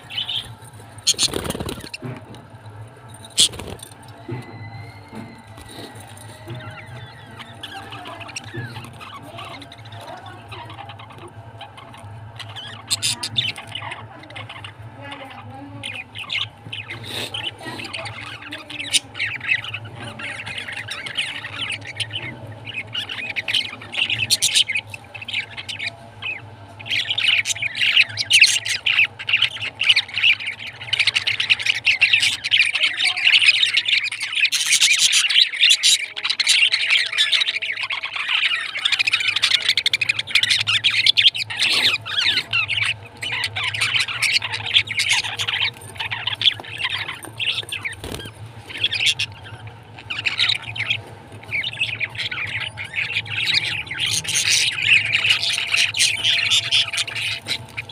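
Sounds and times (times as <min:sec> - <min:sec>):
budgerigars chattering: 0:00.0 - 0:57.9
faint low hum: 0:00.0 - 0:57.9.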